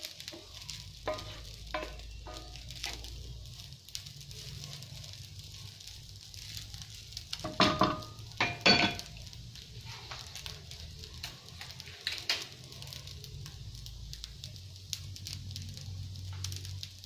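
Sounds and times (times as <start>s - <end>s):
rice frying with faint sizzle: 0.0s - 17.0s.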